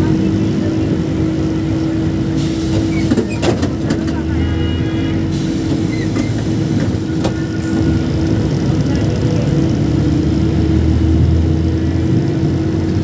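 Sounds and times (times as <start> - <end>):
engine and road rumble: 0.0 - 13.0
traffic passing: 0.0 - 13.0.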